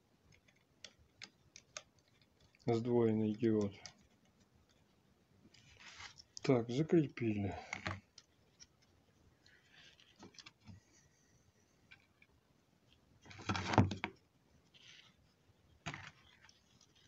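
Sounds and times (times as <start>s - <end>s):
faint clicks and rustles: 0.0s - 17.0s.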